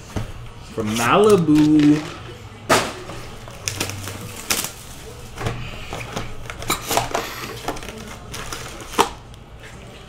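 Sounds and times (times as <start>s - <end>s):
plastic wrap crinkling: 0.8s - 9.3s.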